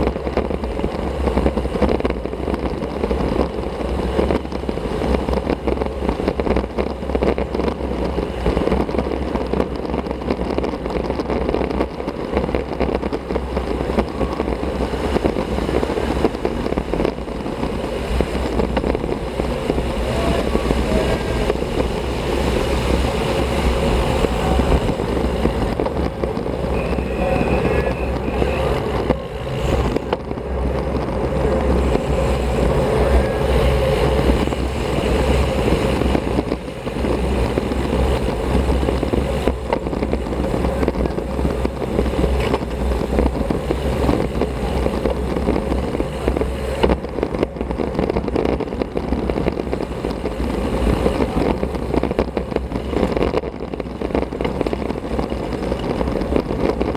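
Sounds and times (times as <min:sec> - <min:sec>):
rolling road noise: 0:00.0 - 0:56.9
wind buffeting microphone: 0:00.0 - 0:56.9.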